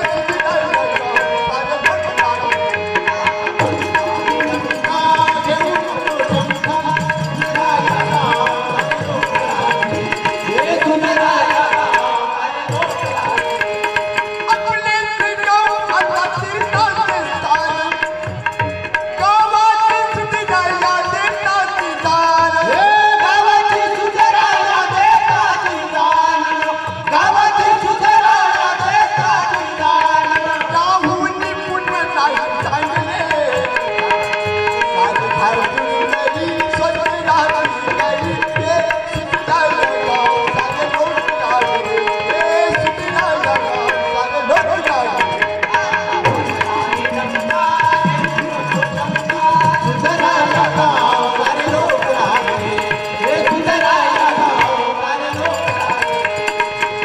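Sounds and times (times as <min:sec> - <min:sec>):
harmonium: 0:00.0 - 0:57.0
men singing devotional song: 0:00.0 - 0:57.0
tabla drumming: 0:00.0 - 0:57.0.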